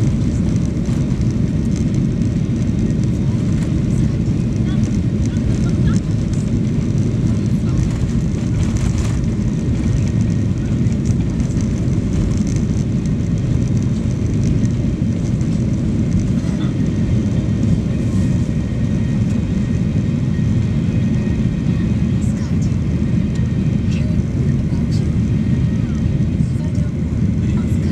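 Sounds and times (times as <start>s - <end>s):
jet engines rumbling: 0.0s - 27.9s.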